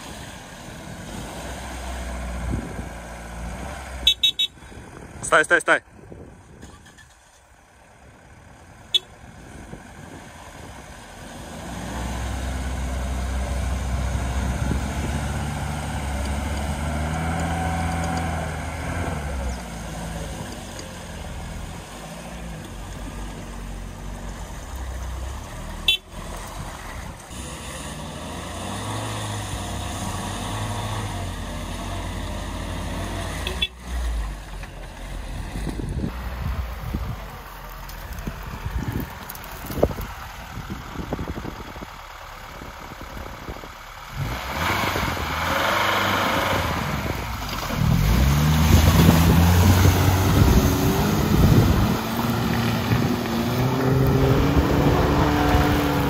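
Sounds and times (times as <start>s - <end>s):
car engines labouring: 0.0s - 56.0s.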